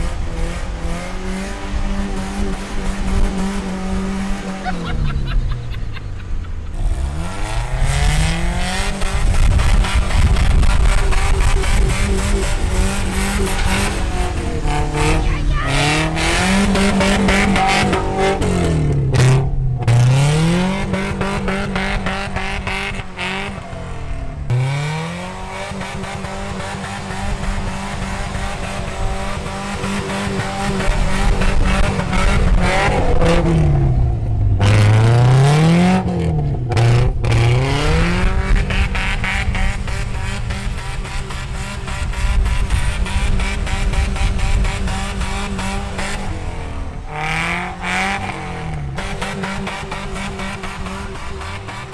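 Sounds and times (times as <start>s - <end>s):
engine revving: 0.0s - 51.9s.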